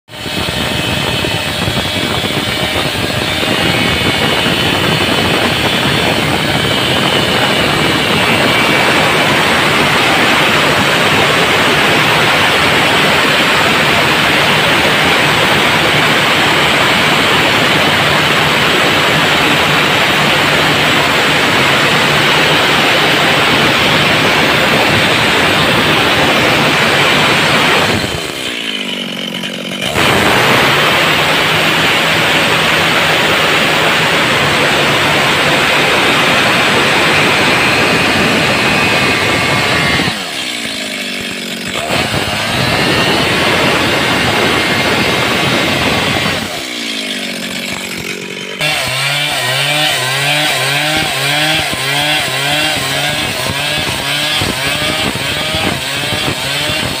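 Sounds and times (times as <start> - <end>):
chainsaw cutting wood: 0.1 - 57.0.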